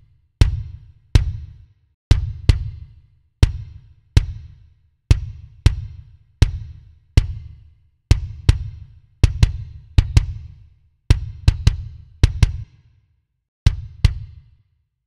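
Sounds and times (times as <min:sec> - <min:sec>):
kick drum hits: 0:00.4 - 0:12.7, 0:13.7 - 0:14.4.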